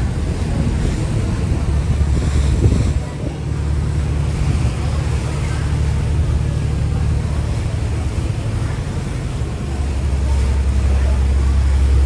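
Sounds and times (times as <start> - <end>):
ferry engine rumble: 0.0 - 12.0
water noise: 0.0 - 12.0
wind: 0.0 - 12.0.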